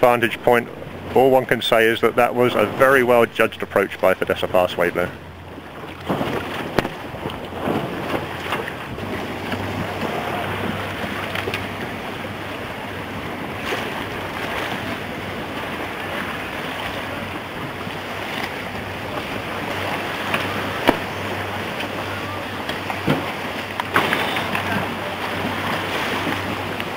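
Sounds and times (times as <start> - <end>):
low steady hum: 0.0 - 26.9
wind and water rushing: 0.0 - 26.9.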